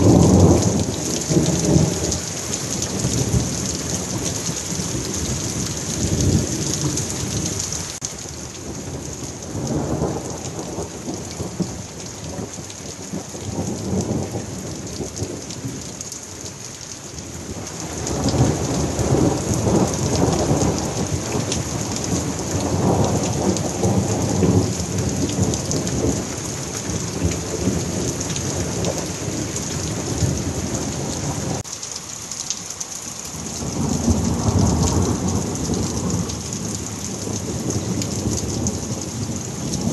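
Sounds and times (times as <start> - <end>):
thunder rumbling: 0.0 - 16.0, 17.4 - 31.7, 33.3 - 39.9
heavy rain hissing: 0.0 - 39.9.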